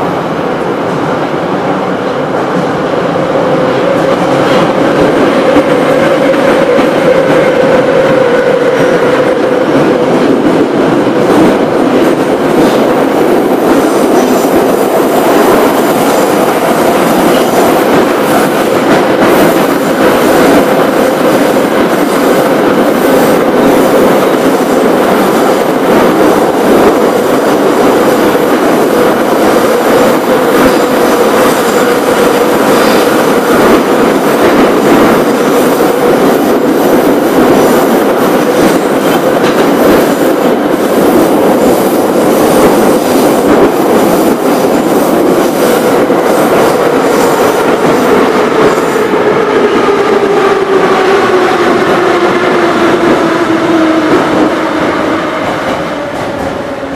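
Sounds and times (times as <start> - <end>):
subway train rolling noise: 0.0 - 56.9.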